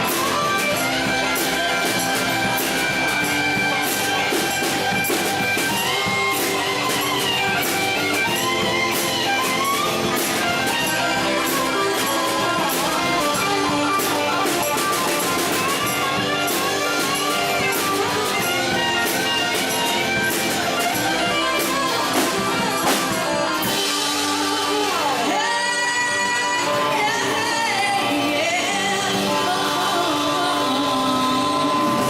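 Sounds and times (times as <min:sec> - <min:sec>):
drum kit: 0:00.0 - 0:32.0
electric guitar: 0:00.0 - 0:32.0
guitar note sliding down: 0:00.0 - 0:32.0
live country-rock band: 0:00.0 - 0:32.0.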